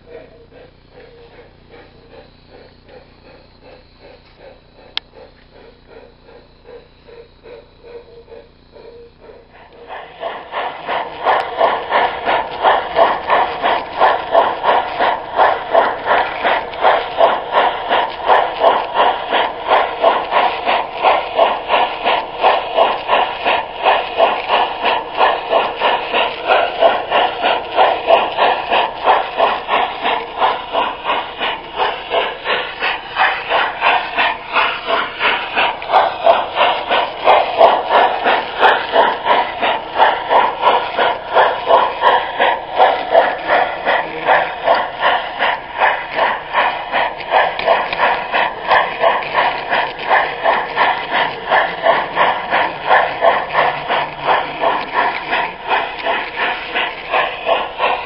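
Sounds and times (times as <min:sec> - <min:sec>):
model train chuff and hiss: 0:00.0 - 0:58.0.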